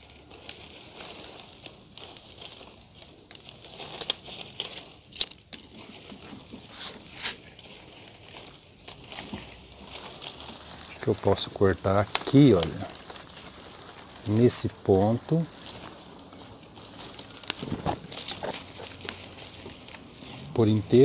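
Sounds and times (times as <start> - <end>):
leaves and soil rustling: 0.0 - 21.0.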